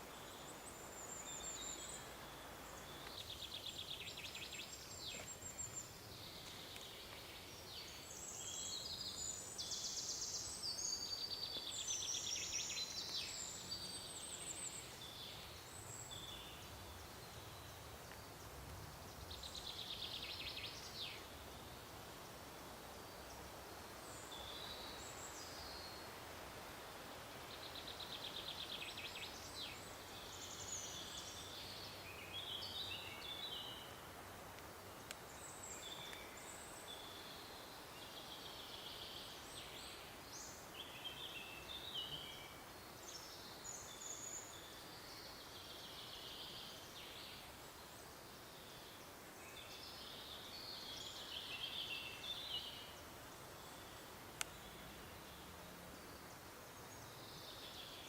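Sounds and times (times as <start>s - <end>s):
faint background hiss: 0.0s - 58.0s
small songbirds singing: 0.0s - 58.0s.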